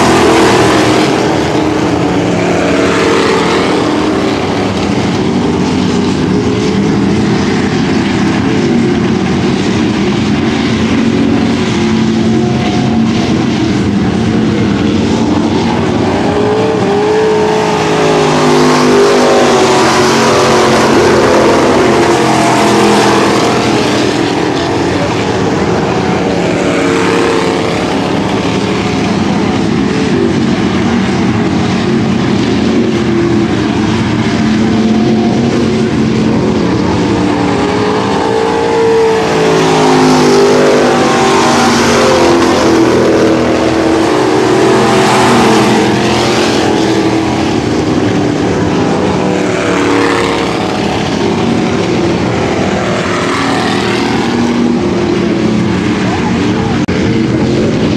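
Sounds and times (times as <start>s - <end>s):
stock car engines racing: 0.0s - 57.9s.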